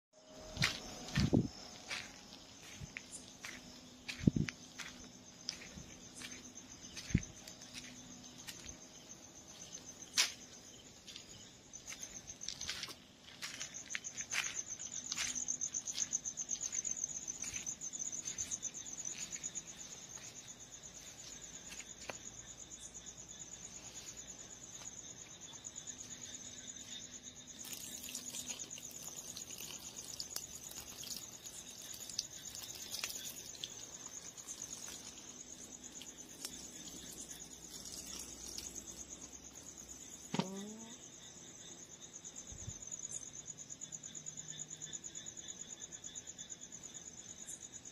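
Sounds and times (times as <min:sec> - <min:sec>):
crickets chirping: 0:00.2 - 0:47.9.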